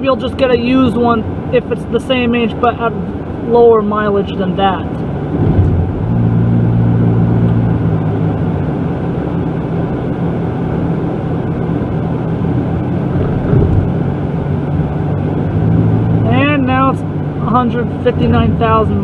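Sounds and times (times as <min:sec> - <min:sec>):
car engine hum: 0:00.0 - 0:19.0
road noise: 0:00.0 - 0:19.0.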